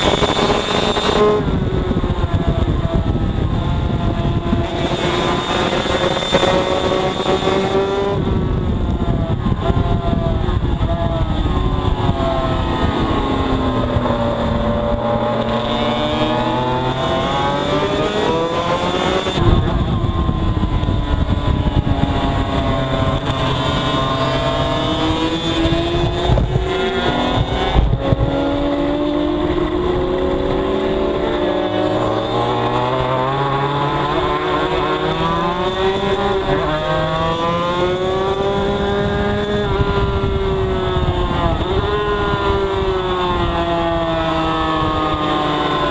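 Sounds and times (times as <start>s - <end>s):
two-stroke motorcycle engine revving: 0.0s - 2.2s, 4.0s - 8.6s, 11.9s - 19.8s, 20.9s - 45.9s
wind rush on microphone: 0.0s - 45.9s.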